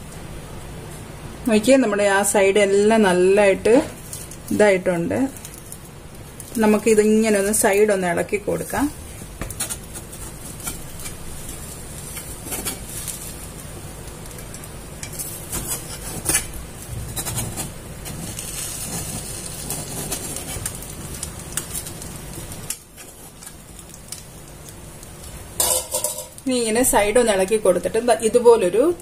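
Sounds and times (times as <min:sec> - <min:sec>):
steady low hiss: 0:00.0 - 0:29.0.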